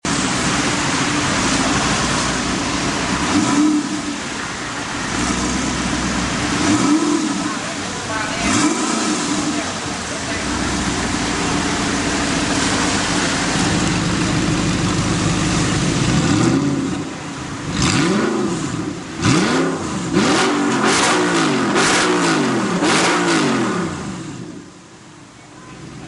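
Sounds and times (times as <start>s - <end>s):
sports car engine revving: 0.0s - 24.8s.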